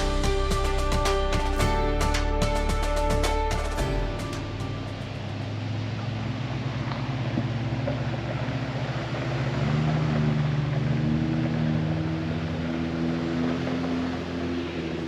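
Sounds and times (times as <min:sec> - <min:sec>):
suv engine accelerating: 0:00.0 - 0:15.0
tyre noise on dirt road: 0:00.0 - 0:15.0.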